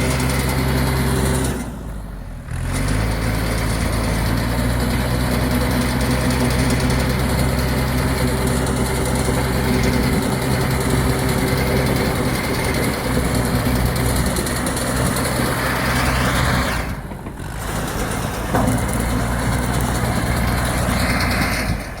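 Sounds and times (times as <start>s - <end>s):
baler engine running under load: 0.0s - 22.0s.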